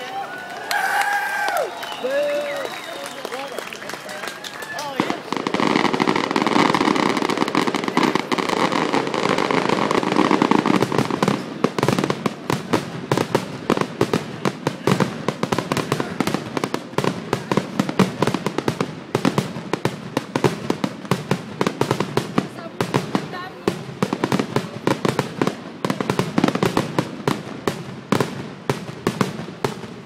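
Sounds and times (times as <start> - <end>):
fireworks crackling and bursting: 0.0 - 30.0
rapid sharp firework bangs: 4.8 - 30.0.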